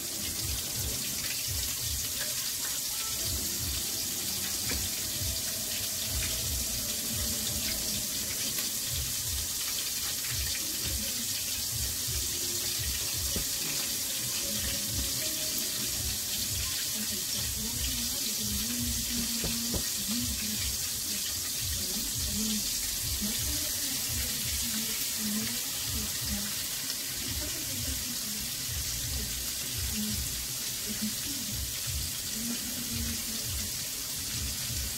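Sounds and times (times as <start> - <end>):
chicken sizzling in hot oil: 0.0 - 34.9.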